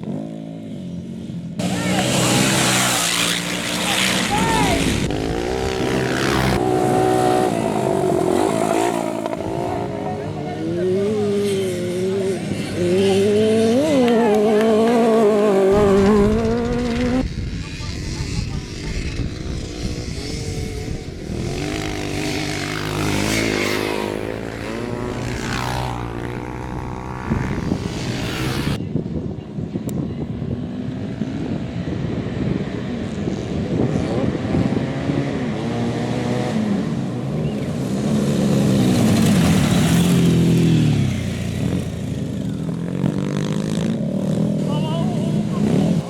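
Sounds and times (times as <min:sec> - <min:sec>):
motorcycle engines revving past: 0:00.0 - 0:46.0.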